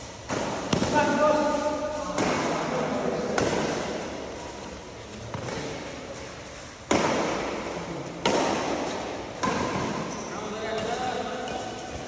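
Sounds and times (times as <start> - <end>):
badminton racket hitting shuttlecock: 0.0 - 12.0.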